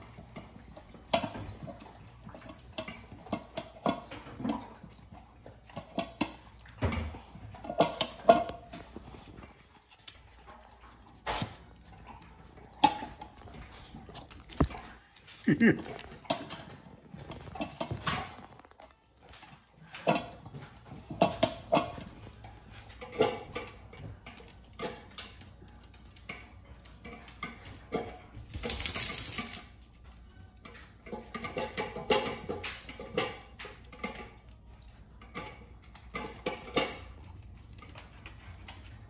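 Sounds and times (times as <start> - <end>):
dogs eating from metal bowls: 0.0 - 39.0.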